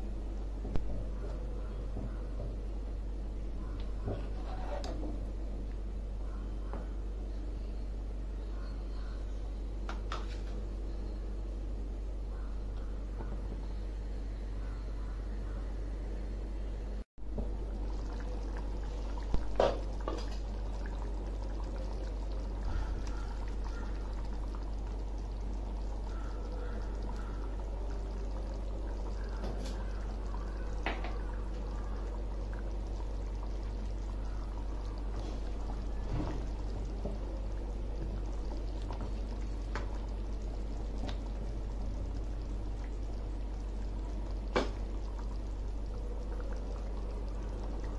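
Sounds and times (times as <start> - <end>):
gravy bubbling in a pan: 0.0 - 10.7, 17.2 - 47.9
low constant hum: 0.0 - 47.9.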